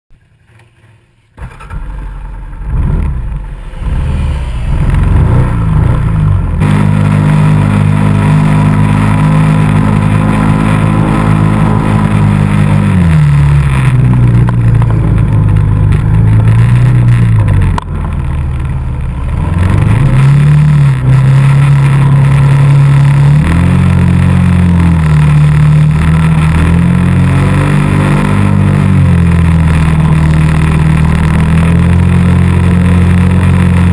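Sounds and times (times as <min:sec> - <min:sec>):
atv engine revving: 0:00.2 - 0:33.9.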